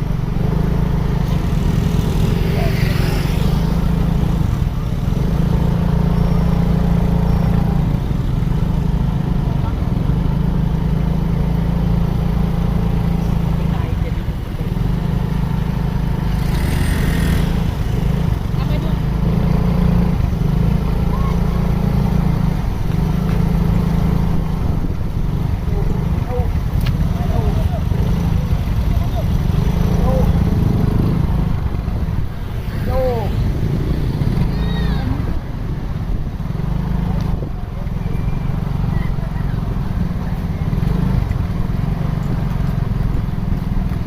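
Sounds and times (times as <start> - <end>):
bus engine rumbling: 0.0 - 44.0.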